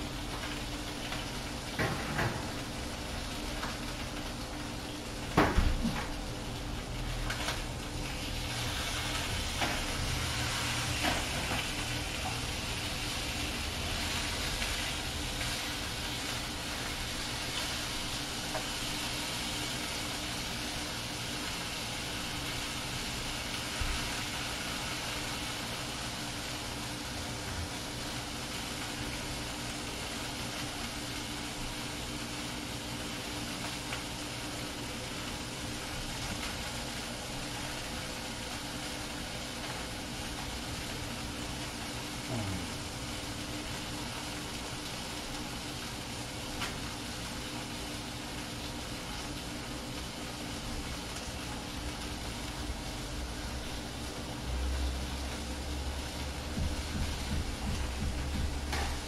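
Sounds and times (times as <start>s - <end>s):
chicken sizzling in a frying pan: 0.0s - 59.0s.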